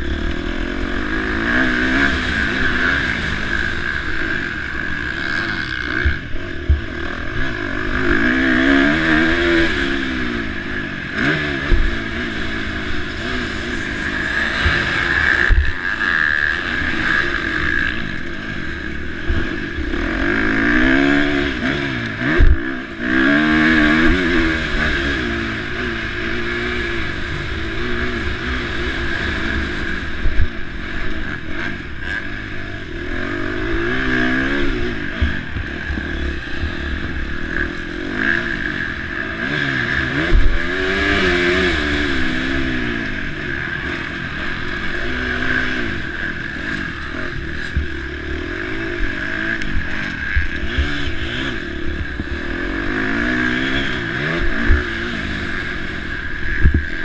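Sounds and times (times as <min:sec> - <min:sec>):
motocross engine revving: 0:00.0 - 0:57.0.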